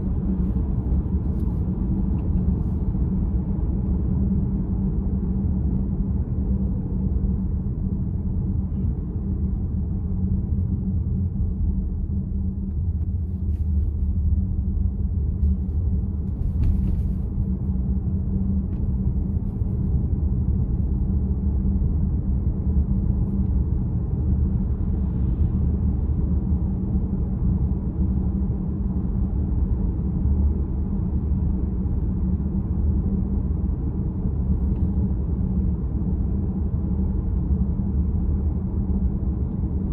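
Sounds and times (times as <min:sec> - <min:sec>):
road and tyre rumble in car: 0:00.0 - 0:39.9.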